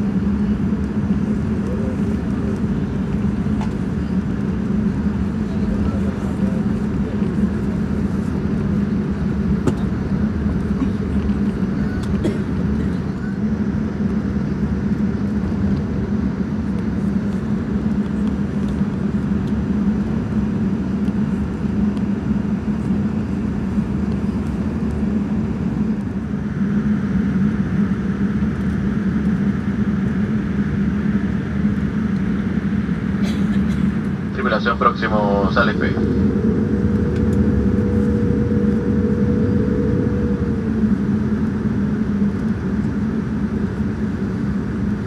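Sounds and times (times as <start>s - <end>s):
aircraft cabin engine hum: 0.0s - 45.0s.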